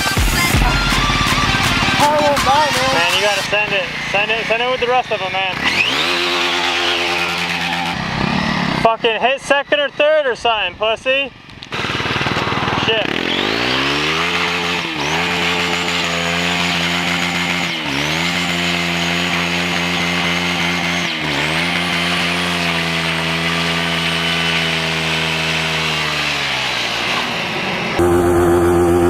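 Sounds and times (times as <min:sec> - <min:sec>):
motorcycle engine revving high: 0:00.0 - 0:29.0.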